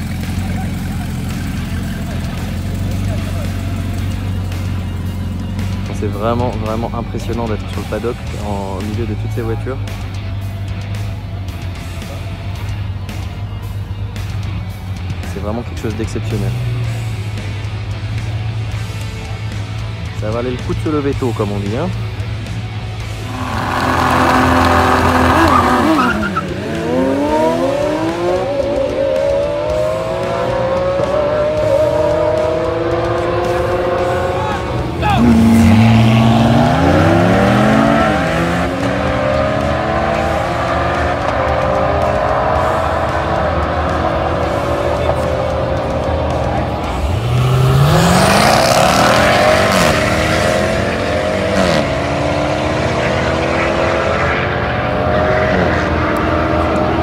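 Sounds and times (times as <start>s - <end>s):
car engine accelerating hard: 0.0s - 9.7s, 20.7s - 57.0s.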